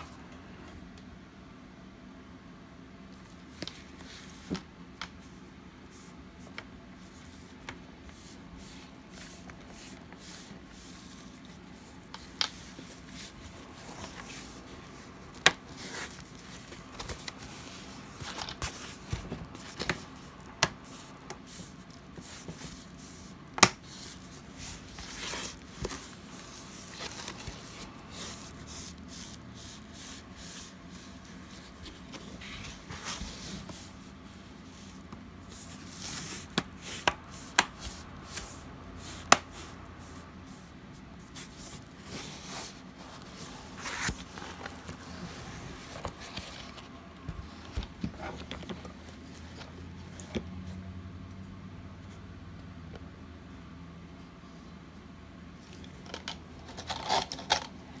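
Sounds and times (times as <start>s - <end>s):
rubbing and rustling: 3.2s - 50.4s.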